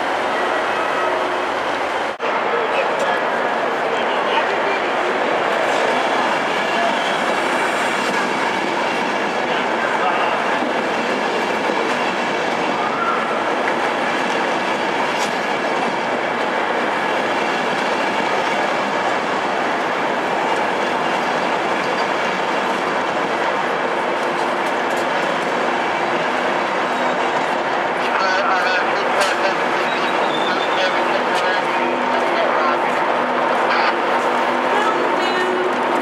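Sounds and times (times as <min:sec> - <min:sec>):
train wheels rolling on rail: 0:02.8 - 0:36.0.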